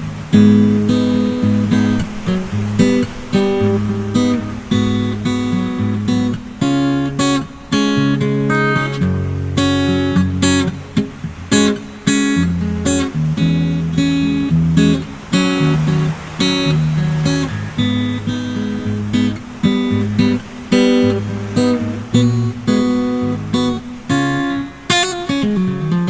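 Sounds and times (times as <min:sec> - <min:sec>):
acoustic guitar strummed: 0:00.0 - 0:26.0.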